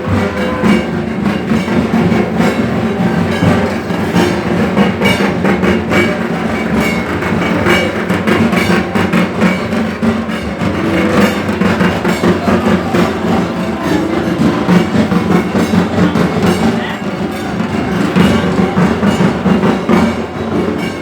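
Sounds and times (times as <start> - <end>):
instrumental music with driving drums: 0.0 - 21.0.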